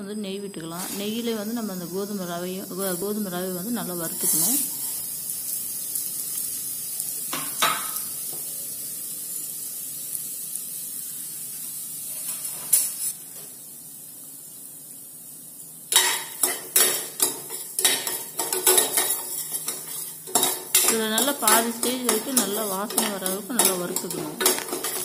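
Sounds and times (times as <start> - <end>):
wheat sizzling in a pan: 0.4 - 25.0.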